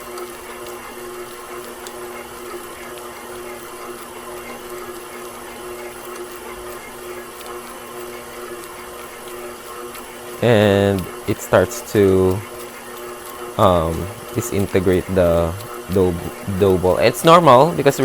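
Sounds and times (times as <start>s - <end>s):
stand mixer kneading dough: 0.0s - 18.0s.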